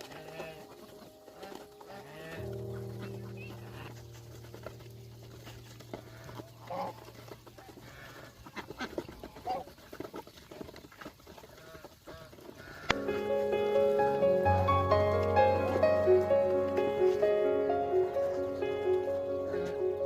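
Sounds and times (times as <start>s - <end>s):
geese honking: 0.0s - 9.9s, 11.4s - 20.0s.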